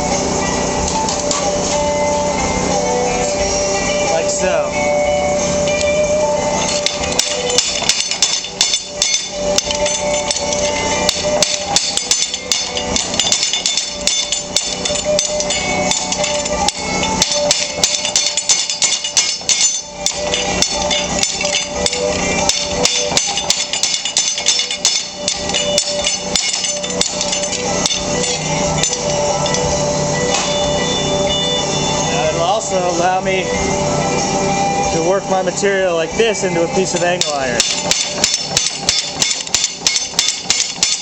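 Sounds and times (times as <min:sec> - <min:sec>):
trip hammer metal blows: 0:00.0 - 0:41.0.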